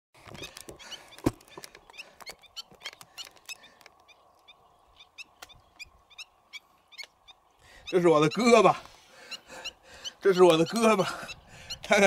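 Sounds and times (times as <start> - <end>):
bird chirping: 0.3 - 12.0.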